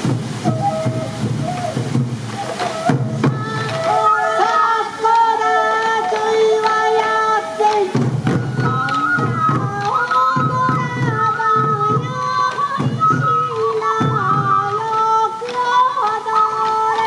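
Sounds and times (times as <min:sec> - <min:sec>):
bamboo flutes playing: 0:00.0 - 0:17.0
taiko drums beating: 0:00.0 - 0:17.0.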